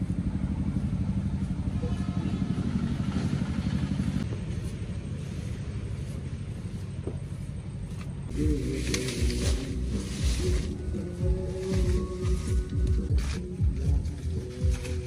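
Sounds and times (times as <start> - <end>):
small engine throbbing: 0.0 - 15.0.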